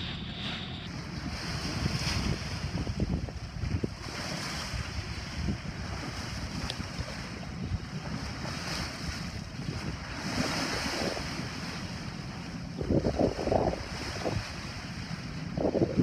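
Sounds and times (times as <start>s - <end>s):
sea water rushing: 0.0s - 16.0s
wind buffeting microphone: 0.0s - 16.0s.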